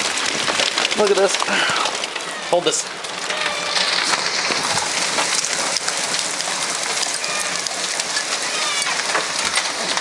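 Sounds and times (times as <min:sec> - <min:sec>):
hail pelting down: 0:00.0 - 0:10.0.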